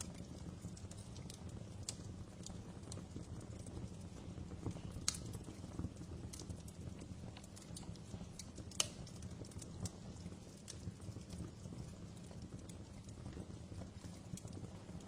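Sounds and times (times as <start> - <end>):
rumble of flames: 0.0 - 15.0
wood fire pops and snaps: 0.0 - 15.0.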